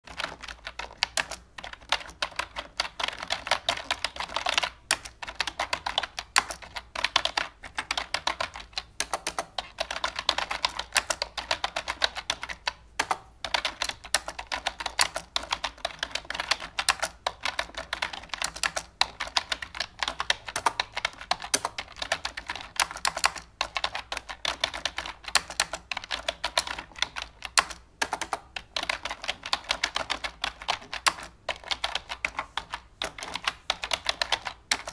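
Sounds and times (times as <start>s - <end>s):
fast irregular clicking: 0.0s - 34.9s.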